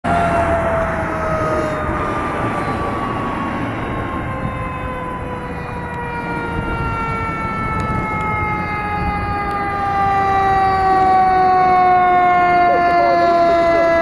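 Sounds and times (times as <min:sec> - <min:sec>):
fire engine siren wailing: 0:00.0 - 0:14.0
truck rumble: 0:00.0 - 0:14.0.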